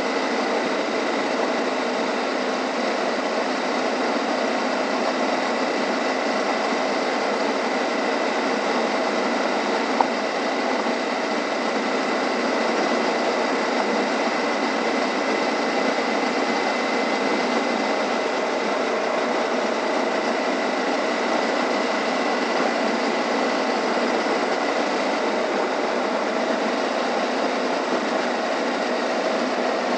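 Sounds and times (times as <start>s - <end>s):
thin steady whine: 0.0s - 29.9s.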